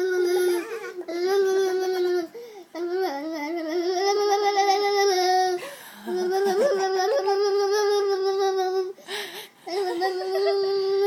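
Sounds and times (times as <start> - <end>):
child singing a wavering note: 0.0 - 9.0, 9.7 - 11.0.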